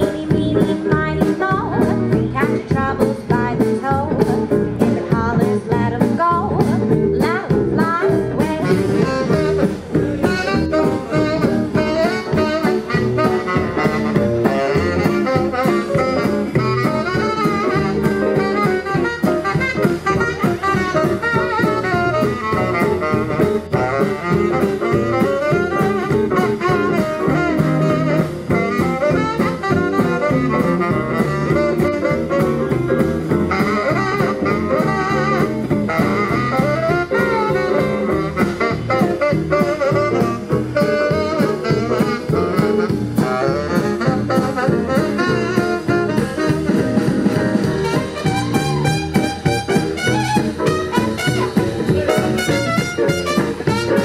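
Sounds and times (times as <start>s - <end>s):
saxophone and horns: 0.0s - 54.0s
steady drum beat: 0.0s - 54.0s.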